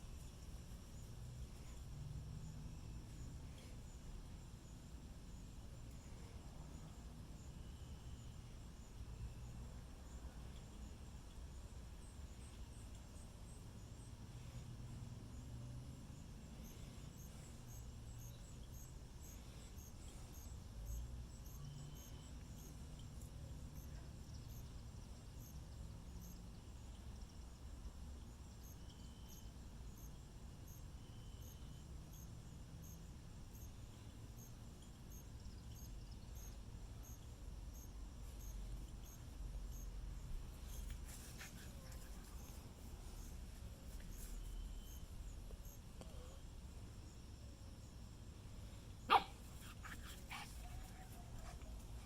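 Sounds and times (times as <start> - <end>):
insect chirping: 0.0 - 52.0.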